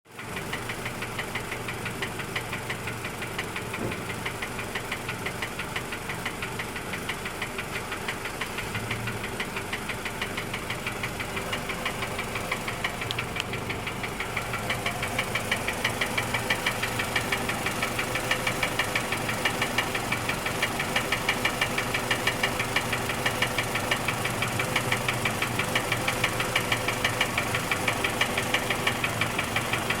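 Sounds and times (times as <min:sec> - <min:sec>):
car engine running: 0:00.1 - 0:30.0
regular engine knock: 0:00.1 - 0:30.0.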